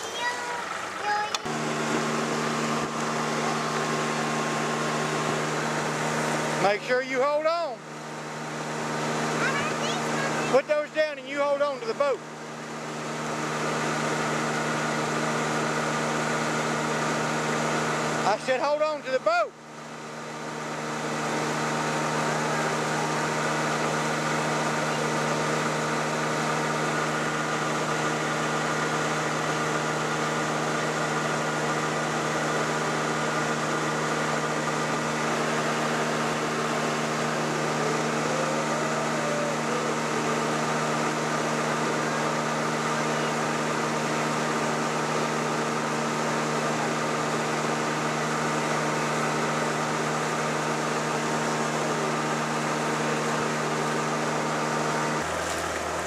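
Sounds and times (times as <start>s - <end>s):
boat motor humming: 0.0s - 56.0s.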